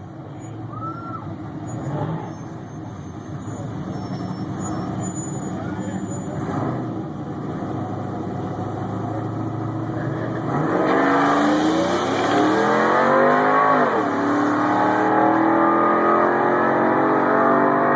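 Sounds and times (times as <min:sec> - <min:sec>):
truck engine revving: 0:01.4 - 0:17.9.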